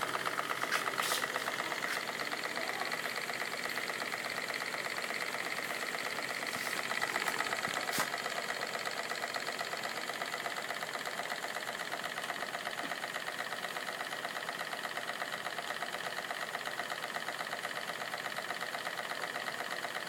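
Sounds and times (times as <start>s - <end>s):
steam engine running: 0.0s - 20.0s.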